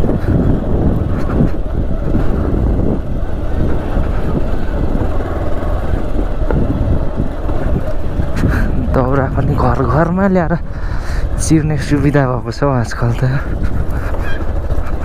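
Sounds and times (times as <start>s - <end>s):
gravel road noise: 0.0s - 15.0s
motorcycle engine rumble: 0.0s - 15.0s.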